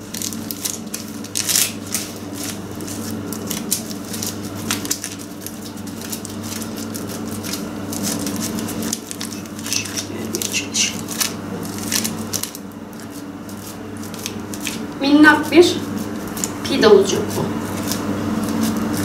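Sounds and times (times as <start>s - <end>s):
baking paper rustling and crinkling: 0.0s - 19.0s
steady low hum: 0.0s - 19.0s.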